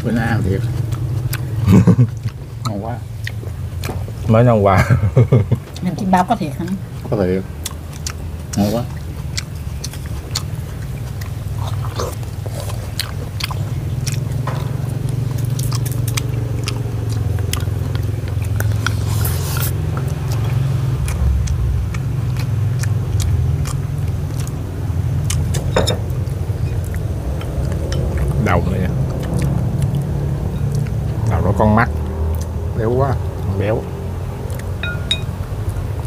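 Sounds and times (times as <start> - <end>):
person chewing food: 0.0 - 5.9, 6.6 - 36.0
steady low hum: 0.0 - 36.0.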